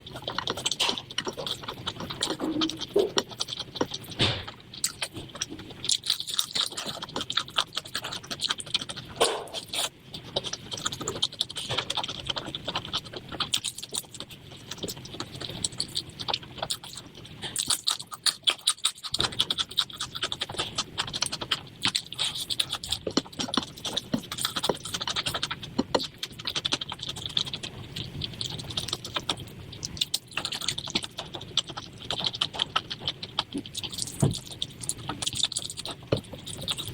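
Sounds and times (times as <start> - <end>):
close-up eating clicks and scrapes: 0.0 - 36.9.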